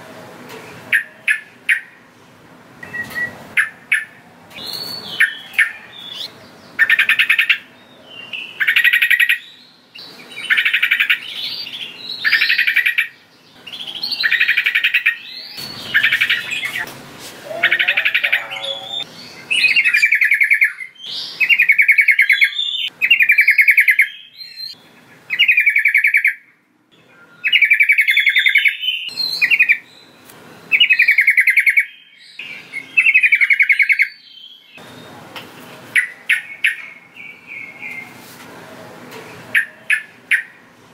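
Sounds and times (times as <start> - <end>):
bird singing: 0.9 - 2.0, 2.8 - 35.2, 36.0 - 38.2, 39.5 - 40.6.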